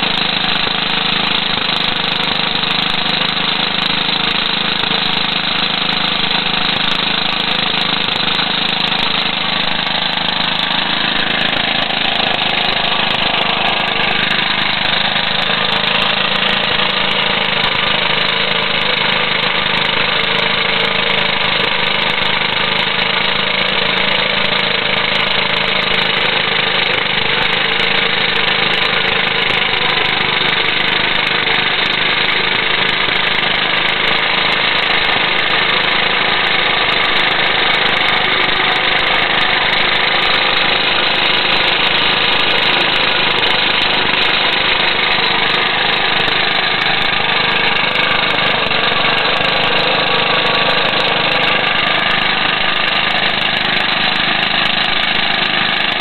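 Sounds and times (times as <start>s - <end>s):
petrol engine running: 0.0s - 56.0s.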